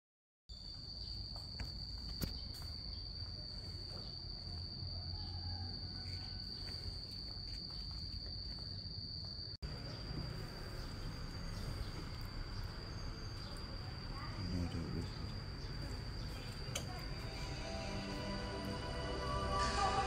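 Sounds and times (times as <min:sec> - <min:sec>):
high-pitched insect drone: 0:01.3 - 0:20.0.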